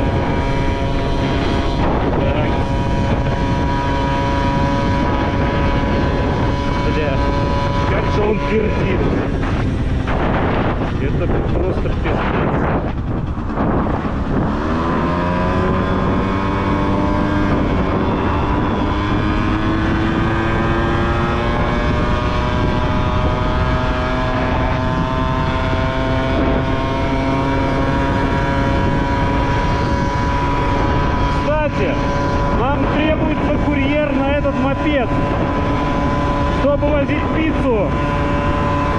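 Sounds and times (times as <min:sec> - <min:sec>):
scooter engine accelerating: 0:00.0 - 0:38.9.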